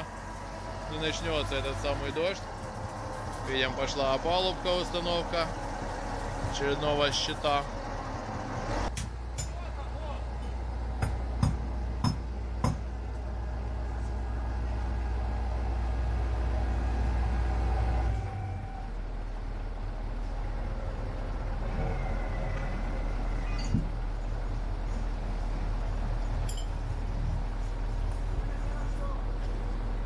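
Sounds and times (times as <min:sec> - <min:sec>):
construction machinery drone: 0:00.0 - 0:30.0.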